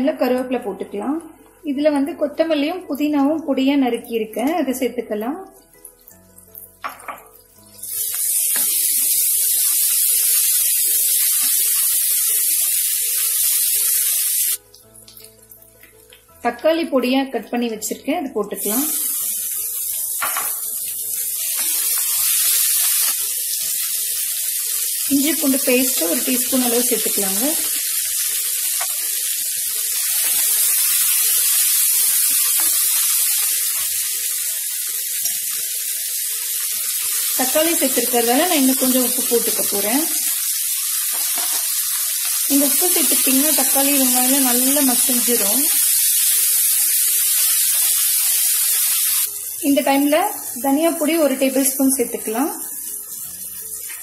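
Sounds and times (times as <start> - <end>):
hot oil sizzling loudly: 5.6 - 16.3, 18.5 - 54.0.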